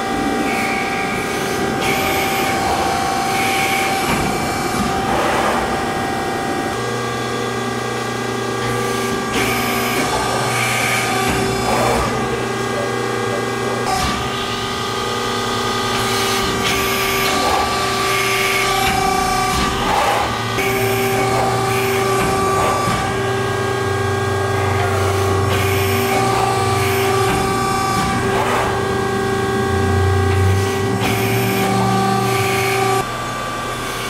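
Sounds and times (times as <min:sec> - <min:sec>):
machine drone with held tones: 0:00.0 - 0:34.0.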